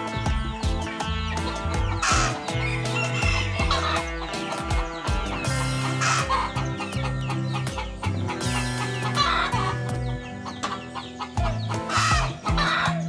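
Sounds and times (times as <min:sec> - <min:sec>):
chickens clucking and squawking: 0:00.0 - 0:13.0
music with bass line and beat: 0:00.0 - 0:13.0.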